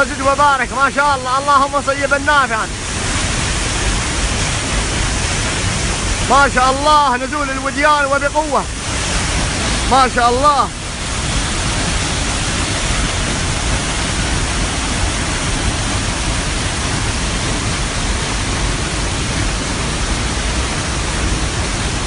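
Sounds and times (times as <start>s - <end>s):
waterfall and torrent rushing: 0.0s - 22.0s.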